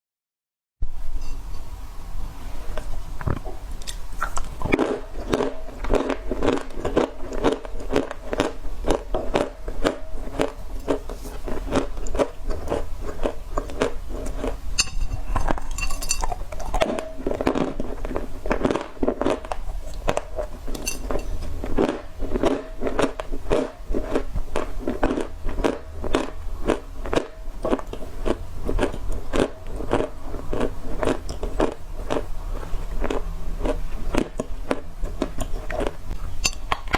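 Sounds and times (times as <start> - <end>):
chewing dry clay crunches: 2.7 - 36.9.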